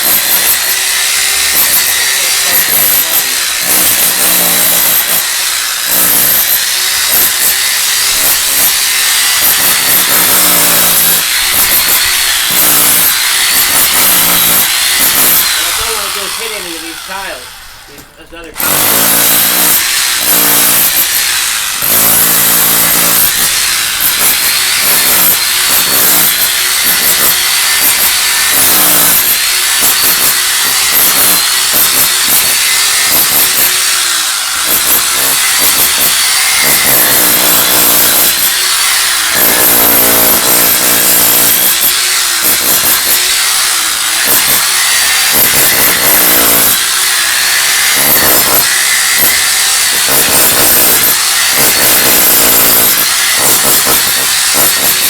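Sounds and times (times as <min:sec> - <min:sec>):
electric chipping hammer breaking concrete: 0:00.0 - 0:55.0.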